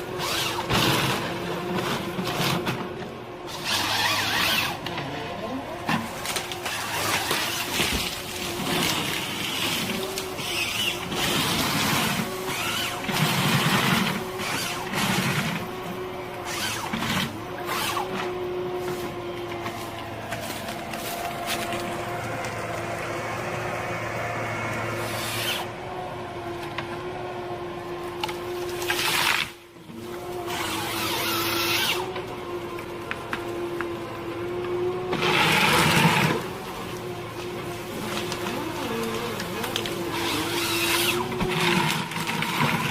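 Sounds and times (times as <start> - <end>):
noisy bursts of working sound: 0.0 - 26.5, 27.2 - 42.9
heavy machinery whining: 0.0 - 42.9.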